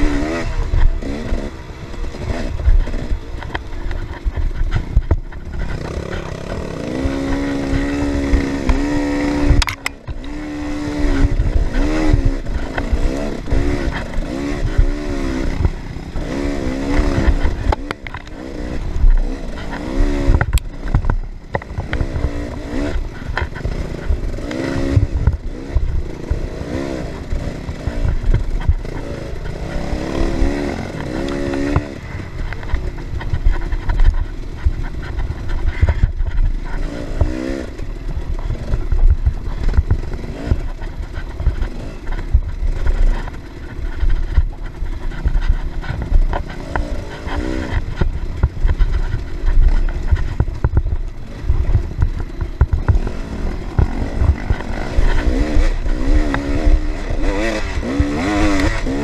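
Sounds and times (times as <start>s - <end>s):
dirt bike engine revving: 0.0s - 59.0s
heavy low rumble: 0.0s - 59.0s
knocks and rattles of bike: 0.0s - 59.0s.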